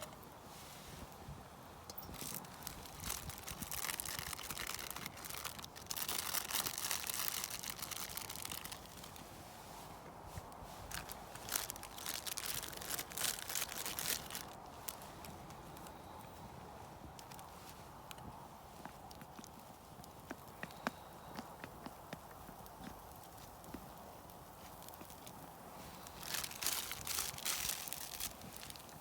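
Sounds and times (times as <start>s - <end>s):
crinkling handling noise: 0.0s - 21.1s, 21.7s - 29.0s.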